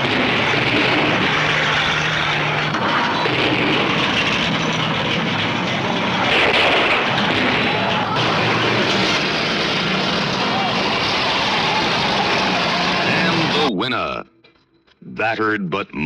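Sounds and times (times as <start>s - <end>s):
several car engines running: 0.0s - 13.8s.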